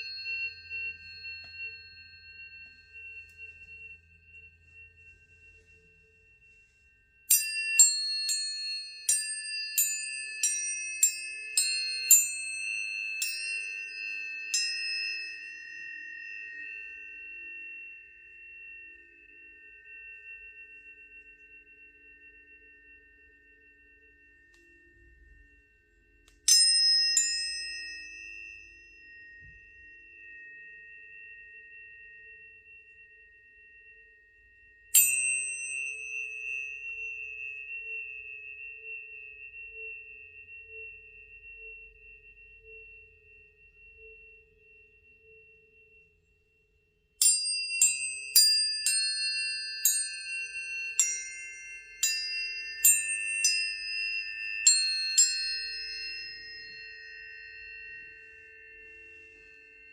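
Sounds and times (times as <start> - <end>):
tuning forks ringing: 0.0 - 59.9.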